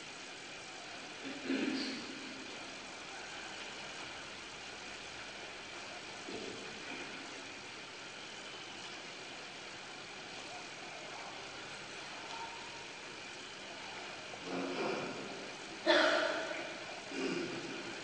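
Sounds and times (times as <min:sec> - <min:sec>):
hall background hum and hiss: 0:00.0 - 0:18.0.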